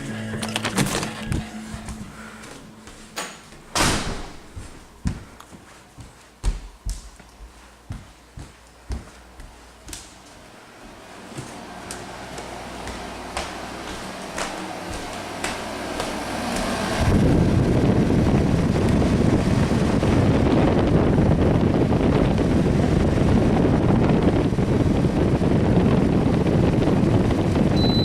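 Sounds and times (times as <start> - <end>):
air conditioner running: 0.0 - 28.0.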